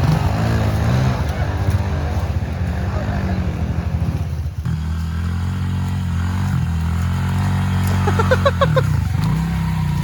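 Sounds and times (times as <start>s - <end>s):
small motorbike engine running: 0.0s - 10.0s.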